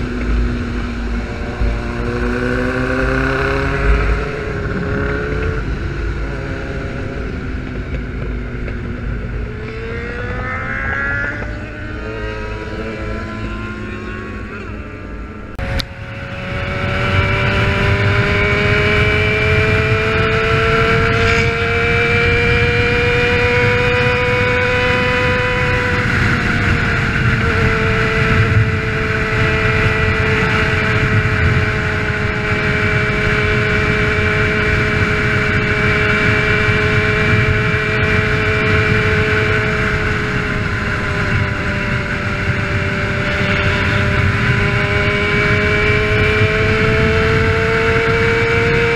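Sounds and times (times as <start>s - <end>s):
motorcycle engine at high revs: 0.0s - 48.9s
road and wind rumble: 0.0s - 48.9s.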